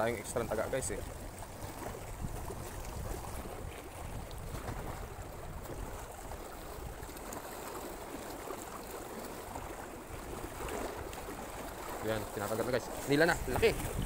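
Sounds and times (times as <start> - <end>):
low wind rumble on microphone: 0.0 - 7.4, 9.5 - 14.0
rushing water: 0.0 - 14.0.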